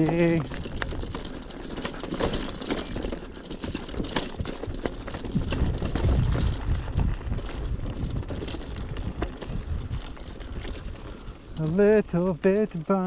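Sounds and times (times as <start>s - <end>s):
bike rattling over rocks: 0.0s - 13.0s.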